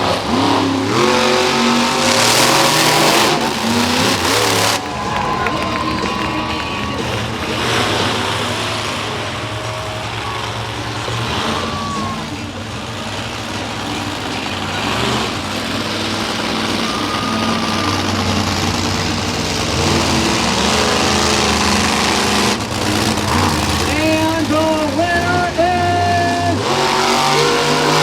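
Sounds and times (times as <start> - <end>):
truck engines rumbling: 0.0 - 28.0.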